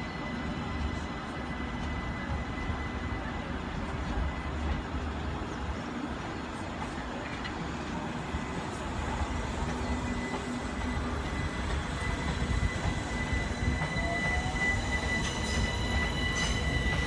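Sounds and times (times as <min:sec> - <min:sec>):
train rumbling past on rails: 0:00.0 - 0:17.0.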